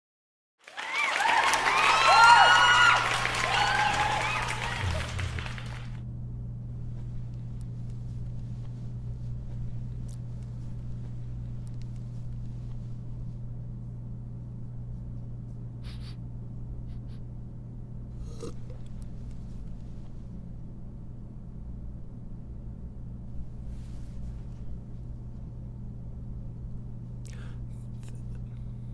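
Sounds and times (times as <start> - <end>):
low studio room hum: 0.6 - 28.9.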